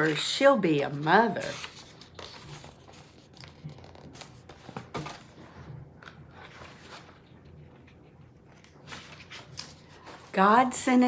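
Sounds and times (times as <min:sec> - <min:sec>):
paper pages rustling: 0:00.0 - 0:10.5.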